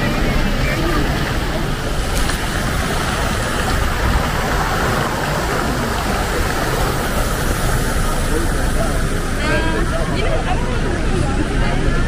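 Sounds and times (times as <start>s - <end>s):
fountain water splashing into basin: 0.0s - 11.6s.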